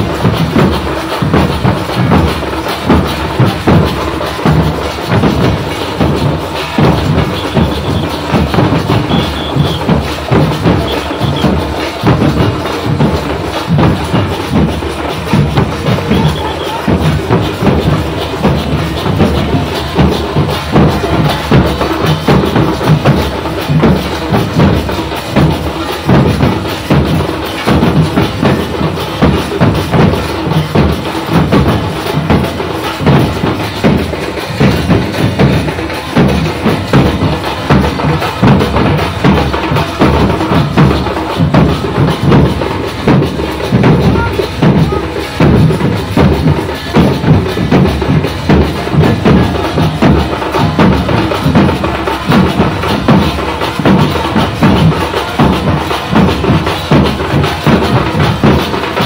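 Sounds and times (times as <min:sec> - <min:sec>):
group of barrel drums beaten: 0:00.0 - 0:59.0.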